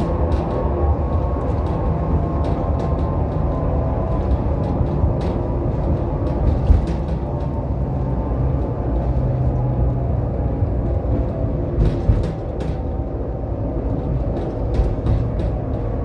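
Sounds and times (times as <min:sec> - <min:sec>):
tram rumbling on track: 0:00.0 - 0:16.0.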